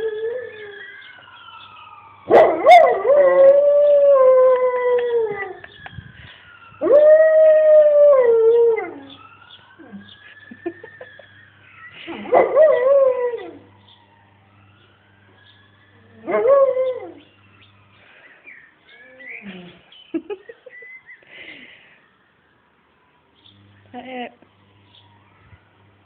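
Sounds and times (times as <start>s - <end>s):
police siren wailing: 0.0s - 20.0s, 20.7s - 23.5s.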